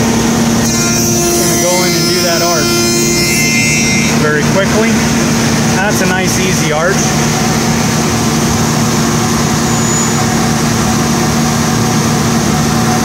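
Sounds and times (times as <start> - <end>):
machine spindles humming: 0.0 - 13.0.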